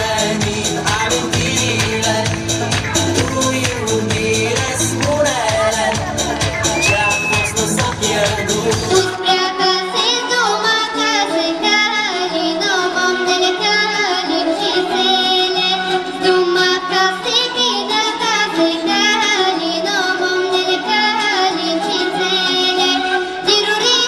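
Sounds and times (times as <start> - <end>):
folk song backing track: 0.0 - 24.0.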